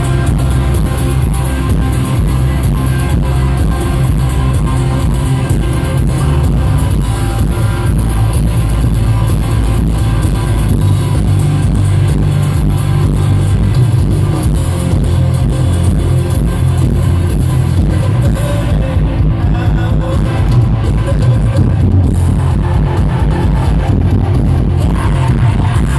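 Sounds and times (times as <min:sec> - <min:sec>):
live rock band playing: 0:00.0 - 0:25.9.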